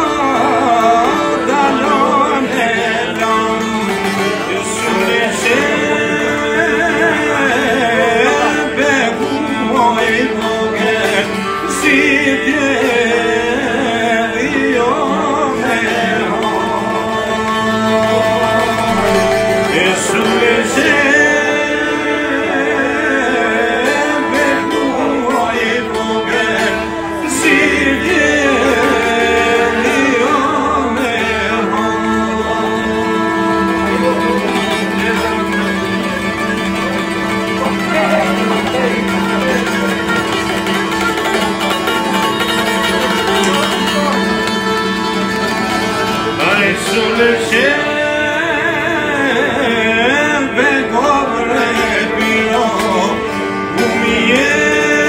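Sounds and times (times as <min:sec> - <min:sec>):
man singing folk song: 0:00.0 - 0:55.0
plucked long-necked lutes: 0:00.0 - 0:55.0.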